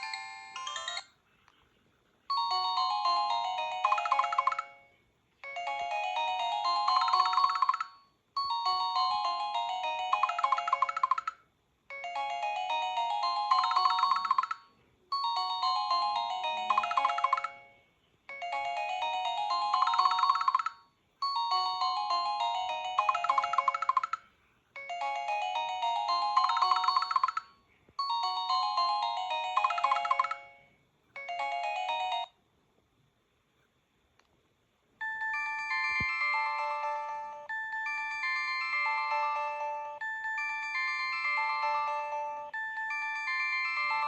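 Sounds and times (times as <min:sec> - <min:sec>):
melodic phone ringtone: 0:00.0 - 0:01.2, 0:02.3 - 0:32.4, 0:35.0 - 0:44.0.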